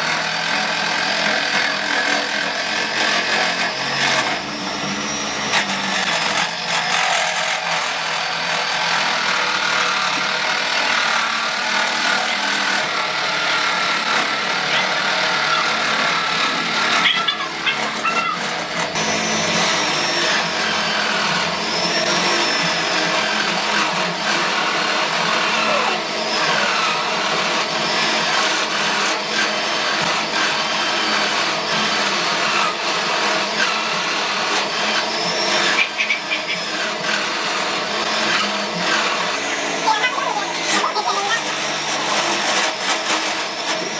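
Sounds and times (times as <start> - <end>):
grinder motor whining: 0.0 - 43.9.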